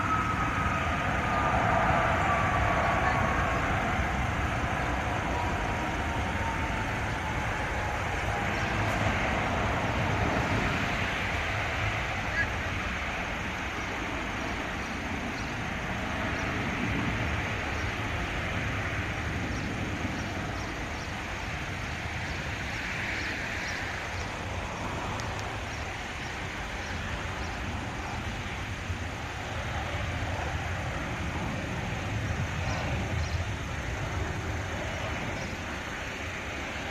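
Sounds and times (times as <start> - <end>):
falling jet whine: 0.0 - 36.9
jet engine roar: 0.0 - 36.9.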